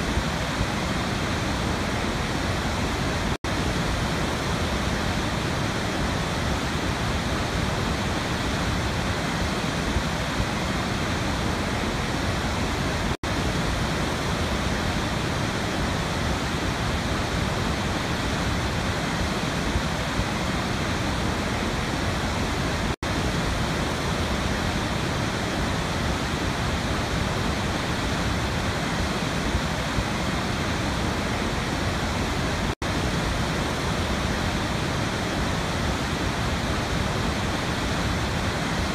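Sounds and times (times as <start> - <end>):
steady rushing water: 0.0 - 38.9.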